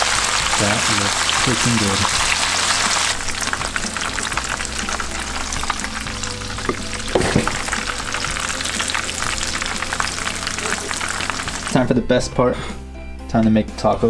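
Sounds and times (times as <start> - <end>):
food sizzling in hot oil: 0.0 - 11.9.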